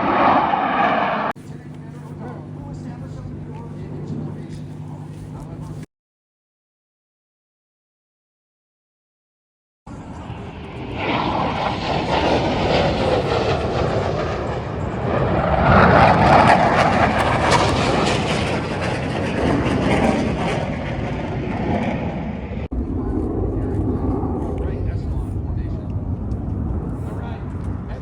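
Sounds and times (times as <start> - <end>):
airplane flying past: 0.0 - 5.9, 9.9 - 28.0.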